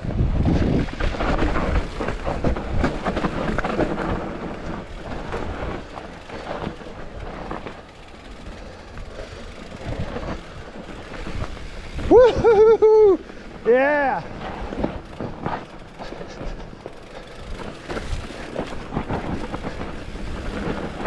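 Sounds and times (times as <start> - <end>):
bike rattling and knocking: 0.0 - 21.0
bike tyres rumbling on dirt: 0.0 - 21.0.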